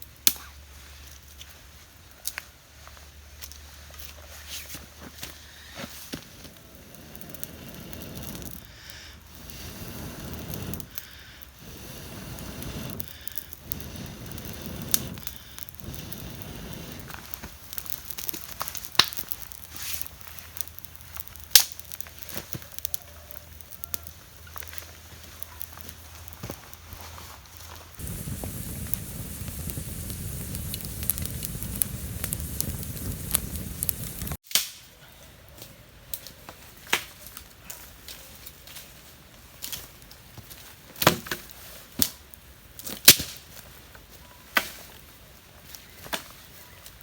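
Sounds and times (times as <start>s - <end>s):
campfire crackling and popping: 1.2s - 4.1s, 5.3s - 34.8s, 36.0s - 47.0s.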